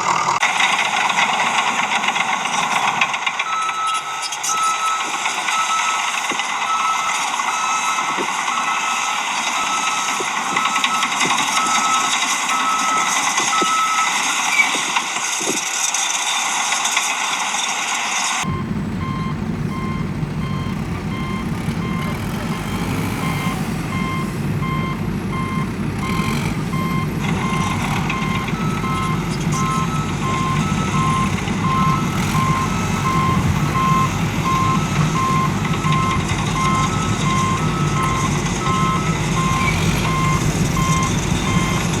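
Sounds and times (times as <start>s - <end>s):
heavy vehicle engine running: 0.0s - 15.3s, 16.6s - 42.0s
reversing alarm beeping: 3.3s - 14.9s, 18.4s - 42.0s.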